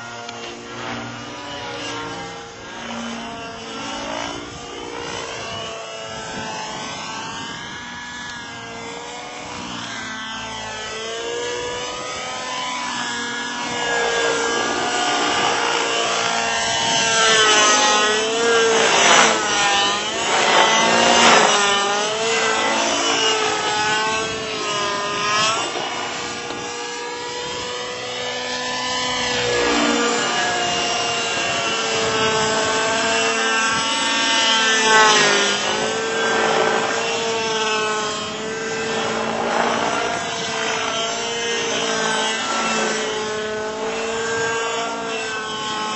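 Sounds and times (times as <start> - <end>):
model helicopter engine and rotor: 0.0 - 45.9.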